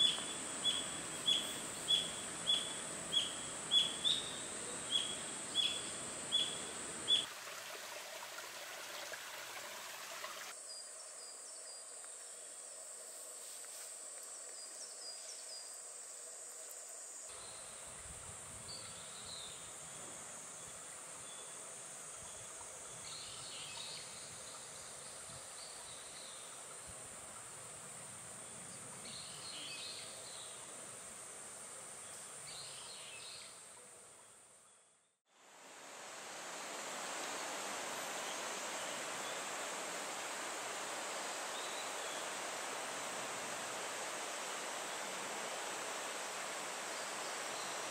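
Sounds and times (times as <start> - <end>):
insects droning: 0.0 - 34.8, 35.4 - 47.9
soft outdoor hiss: 0.0 - 47.9.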